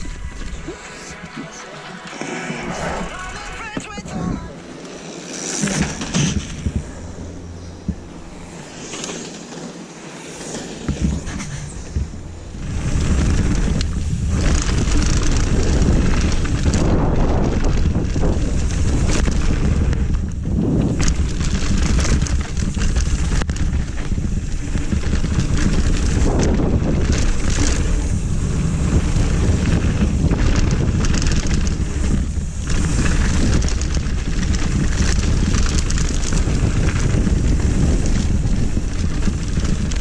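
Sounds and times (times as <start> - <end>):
wind buffeting microphone: 0.0 - 4.8, 5.6 - 9.0, 10.8 - 40.0
tyres rumbling on dirt: 0.0 - 40.0
bike knocking and rattling: 3.0 - 40.0.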